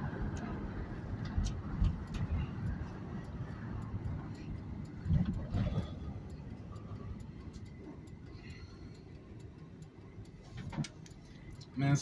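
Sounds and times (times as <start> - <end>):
car road and engine rumble: 0.0 - 12.0
regular light ticking: 0.1 - 12.0.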